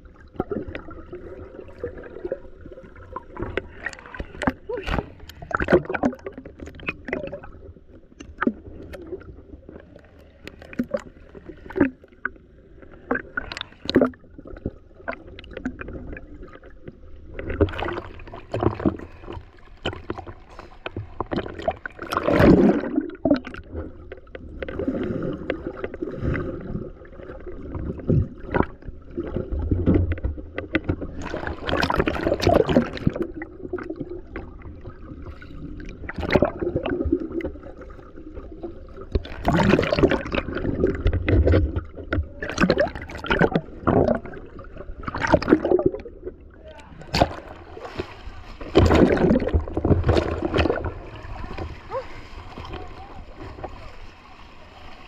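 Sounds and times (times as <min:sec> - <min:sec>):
water sloshing around boat: 0:00.0 - 0:55.0.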